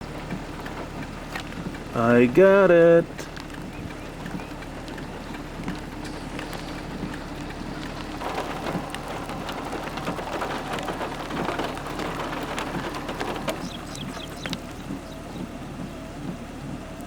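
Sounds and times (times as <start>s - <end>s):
rain drops ticking: 0.0s - 17.0s.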